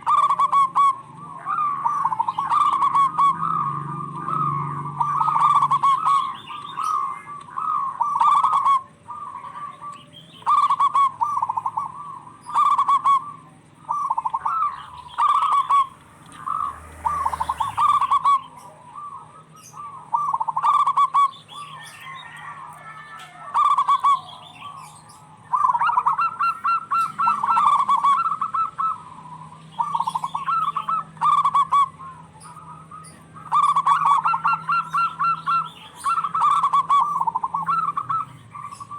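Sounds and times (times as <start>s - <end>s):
doves rippling coos: 0.0s - 38.9s.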